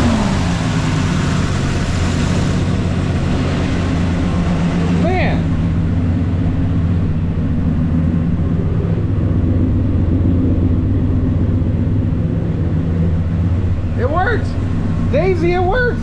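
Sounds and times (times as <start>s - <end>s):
car engine idling rumble: 0.0s - 16.0s.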